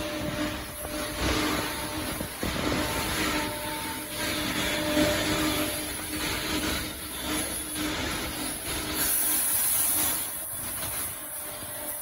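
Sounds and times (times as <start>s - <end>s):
high hiss: 0.0s - 12.0s
machinery humming: 0.0s - 12.0s.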